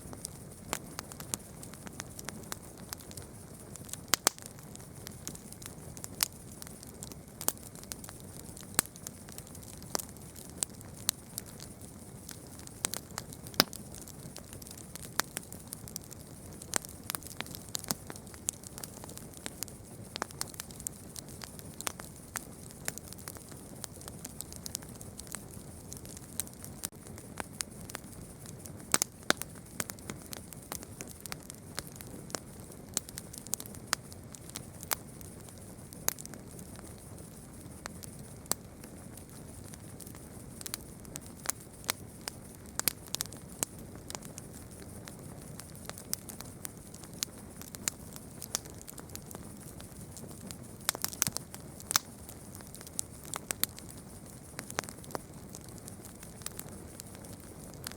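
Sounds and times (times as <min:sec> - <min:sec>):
campfire crackling and popping: 0:00.0 - 0:57.9
soft steady hiss: 0:00.0 - 0:57.9.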